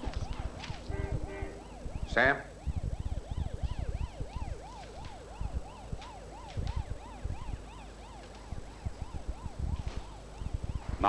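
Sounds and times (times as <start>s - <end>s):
electronic siren wailing: 0.0s - 11.0s
low thuds: 0.0s - 11.0s.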